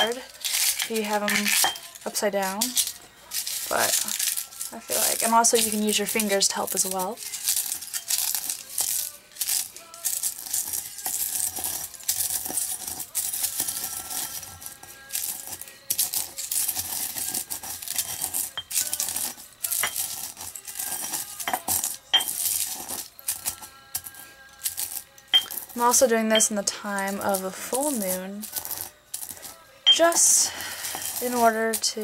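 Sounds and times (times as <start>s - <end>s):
eggshells crunching: 0.0s - 32.0s.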